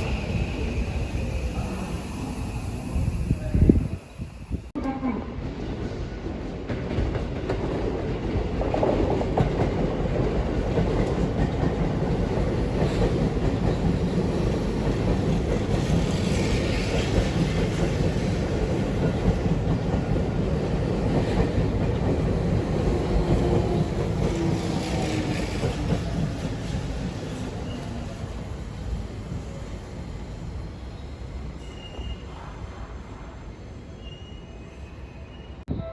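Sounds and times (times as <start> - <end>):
electric train rumbling past: 0.0 - 34.0.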